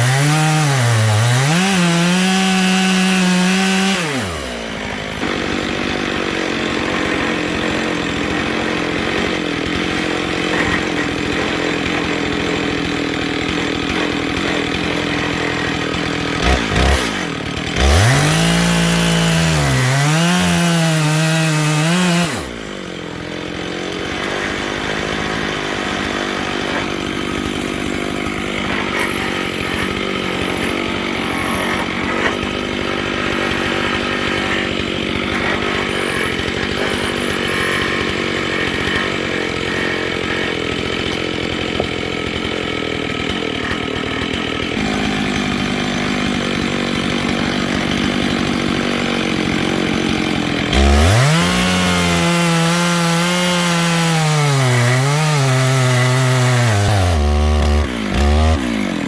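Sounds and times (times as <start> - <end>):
chainsaw cutting log: 0.0 - 59.0
chainsaw revving: 0.0 - 59.0.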